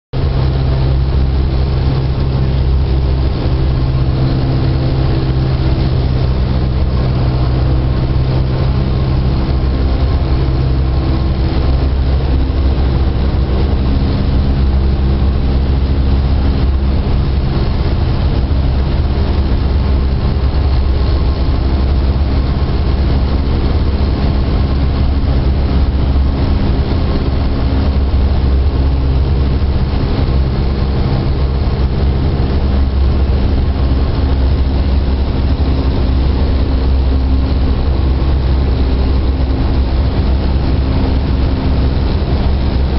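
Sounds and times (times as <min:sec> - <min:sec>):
propeller plane engine droning: 0:00.1 - 0:42.9.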